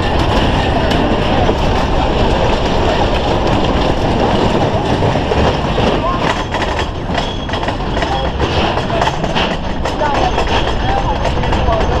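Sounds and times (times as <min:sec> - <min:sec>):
roller coaster clattering on track: 0:00.0 - 0:12.0.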